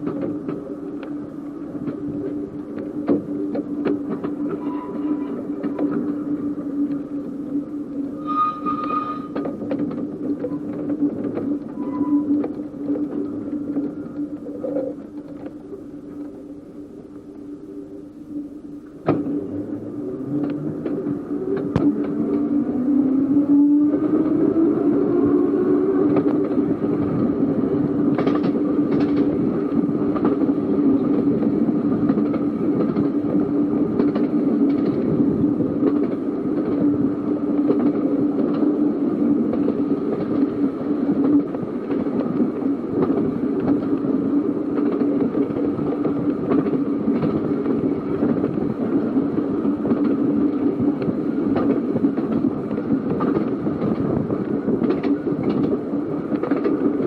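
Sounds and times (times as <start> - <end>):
wheels clicking over rail joints: 0.0 - 1.2, 1.8 - 7.4, 8.2 - 15.6, 20.1 - 57.0
electric tram running: 0.0 - 57.0.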